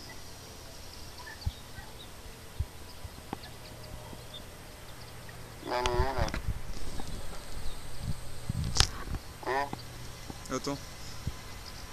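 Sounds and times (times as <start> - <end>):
distant jet engine rumble: 0.0 - 11.9
small birds chirping: 0.0 - 11.9.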